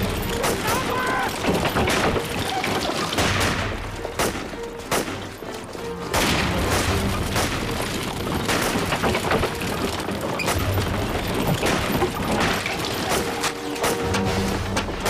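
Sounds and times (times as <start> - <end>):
dramatic music: 0.0 - 15.0
gunfire bangs: 0.0 - 15.0.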